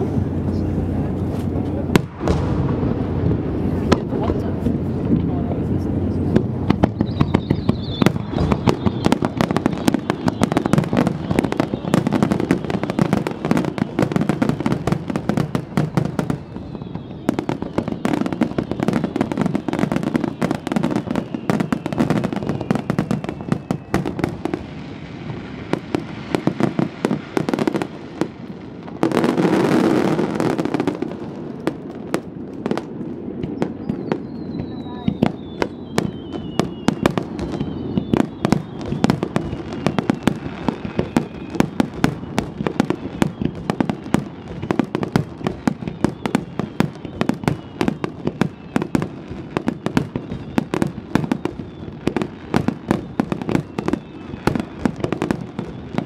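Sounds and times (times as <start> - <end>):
fireworks bursting with sharp bangs: 0.0 - 56.0.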